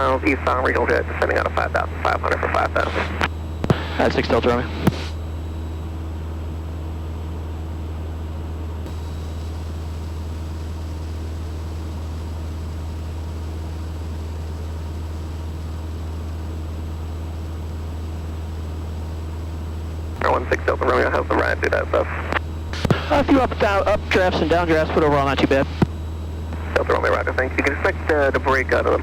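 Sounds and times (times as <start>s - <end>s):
airplane engine and propeller drone: 0.0s - 29.0s.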